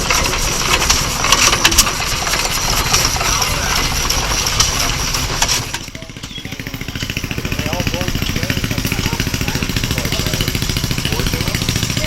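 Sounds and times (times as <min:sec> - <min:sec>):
dense mixed clatter: 0:00.0 - 0:12.0
engine running: 0:00.0 - 0:12.0.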